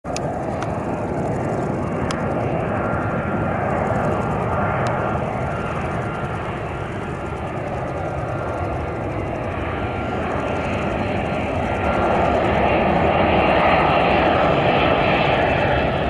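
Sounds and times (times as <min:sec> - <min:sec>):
jet engines roaring: 0:00.0 - 0:16.0
faint thin whine: 0:00.1 - 0:15.7.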